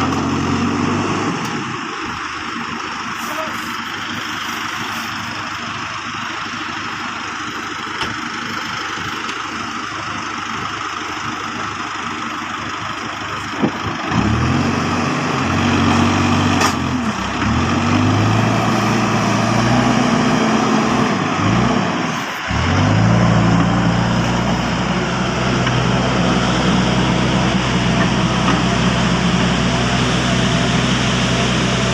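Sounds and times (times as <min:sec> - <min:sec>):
diesel engine revving under load: 0:00.0 - 0:10.6, 0:11.2 - 0:31.9.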